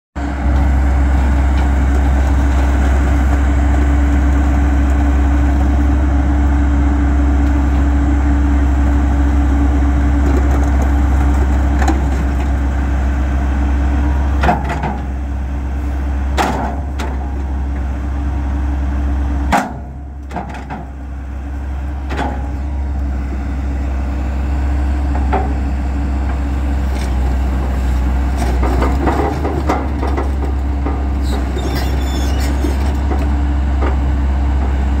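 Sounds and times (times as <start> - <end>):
excavator diesel engine drone: 0.2 - 35.0.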